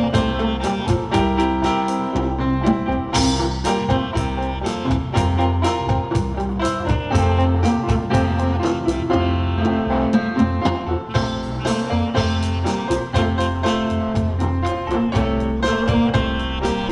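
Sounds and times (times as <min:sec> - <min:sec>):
band playing jazzy pop: 0:00.0 - 0:16.9.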